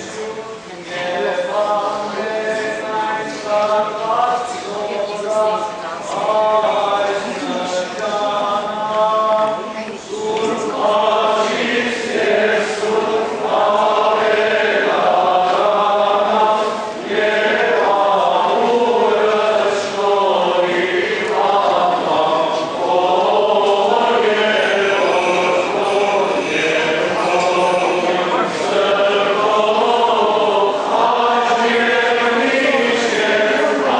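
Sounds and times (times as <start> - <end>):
choir singing a hymn: 0.0 - 33.9.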